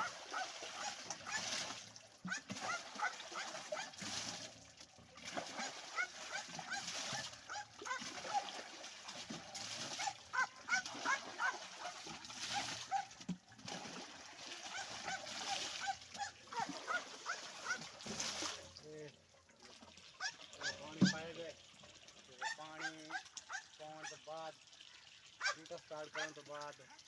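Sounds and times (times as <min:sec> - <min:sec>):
water poured into pipe: 0:00.0 - 0:27.0.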